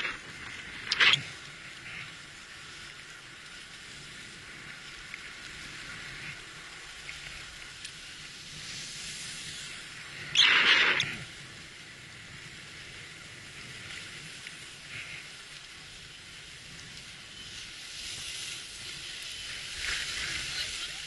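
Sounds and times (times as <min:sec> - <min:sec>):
skis hissing over snow: 0:00.0 - 0:21.0.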